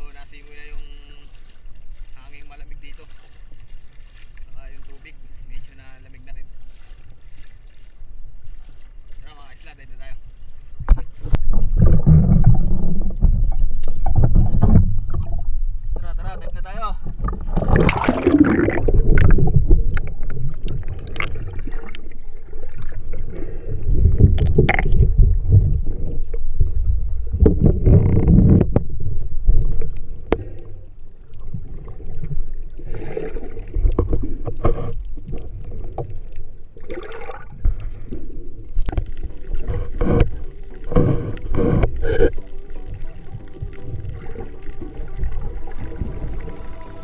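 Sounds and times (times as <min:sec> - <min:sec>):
muffled underwater sloshing: 0:00.0 - 0:47.0
water splashing: 0:00.0 - 0:47.0.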